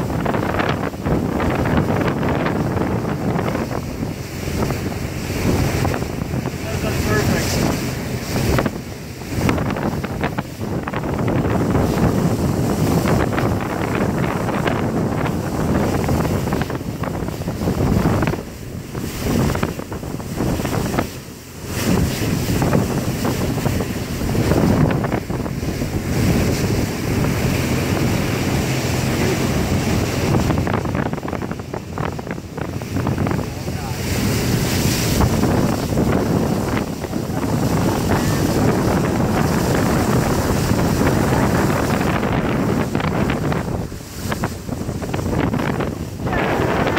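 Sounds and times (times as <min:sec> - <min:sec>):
boat engine: 0:00.0 - 0:46.9
rush of boat wake: 0:00.0 - 0:46.9
wind buffeting microphone: 0:00.0 - 0:46.9.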